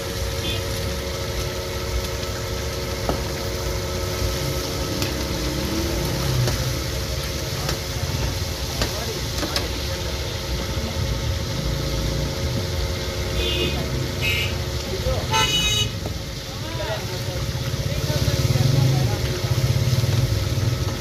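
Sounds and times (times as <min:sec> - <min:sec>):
food deep-frying in oil: 0:00.0 - 0:21.0
idling vehicle engine rumble: 0:00.0 - 0:21.0.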